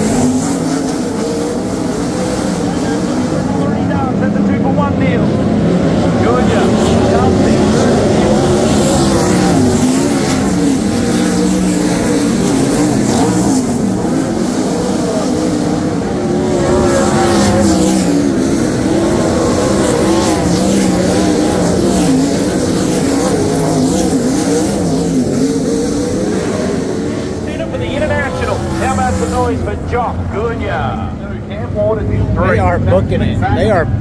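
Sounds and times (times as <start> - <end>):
race car engines roaring: 0.0 - 34.0.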